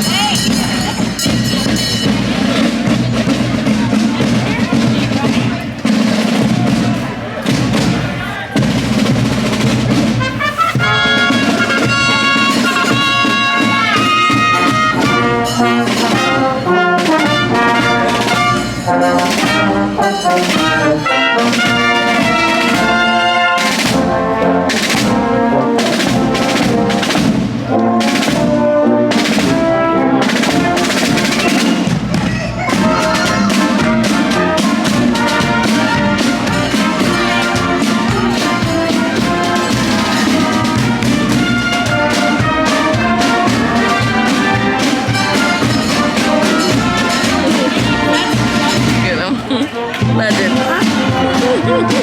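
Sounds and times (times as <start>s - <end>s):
brass band playing: 0.0s - 52.0s
drums: 0.0s - 52.0s.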